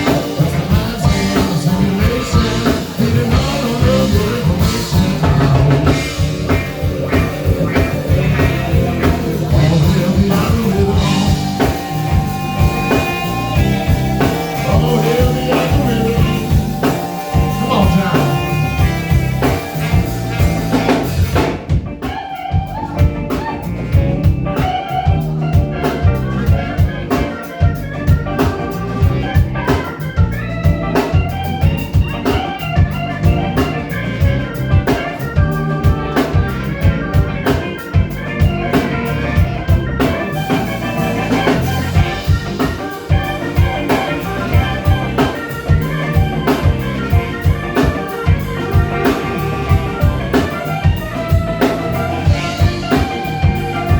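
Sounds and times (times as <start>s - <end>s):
drum kit steady beat: 0.0s - 53.9s
guitar: 0.0s - 53.9s
organ: 0.0s - 53.9s.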